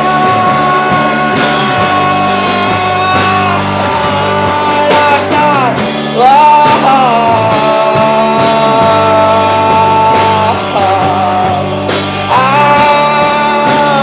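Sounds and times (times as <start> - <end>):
rock band playing live: 0.0 - 14.0
singer holding long notes: 0.0 - 14.0.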